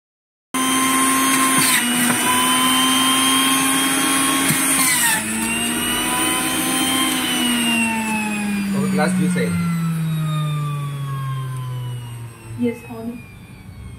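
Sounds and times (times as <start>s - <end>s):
juicer motor whine: 0.6s - 13.9s.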